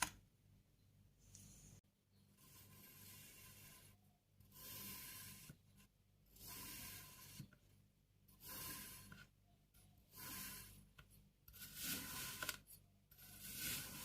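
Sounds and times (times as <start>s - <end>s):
soft strokes of kinetic sand: 1.2s - 14.0s.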